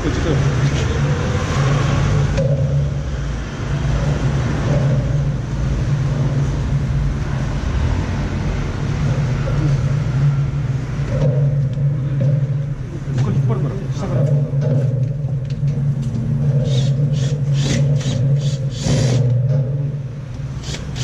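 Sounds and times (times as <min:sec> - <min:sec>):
rumble: 0:00.5 - 0:20.6.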